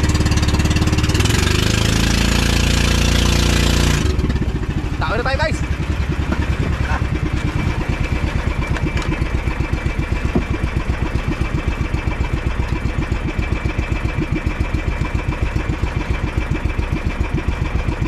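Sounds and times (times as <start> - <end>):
boat engine chugging: 0.0 - 18.0.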